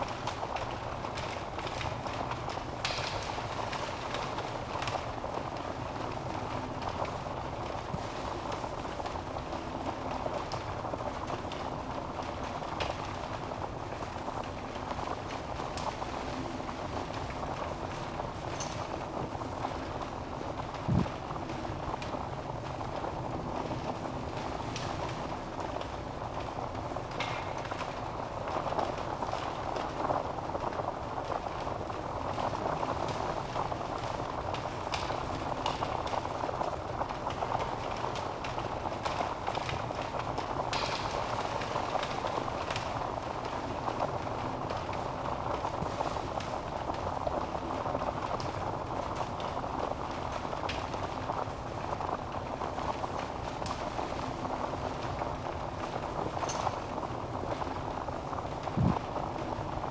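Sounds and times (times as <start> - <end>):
wood fire burning: 0.0 - 59.9.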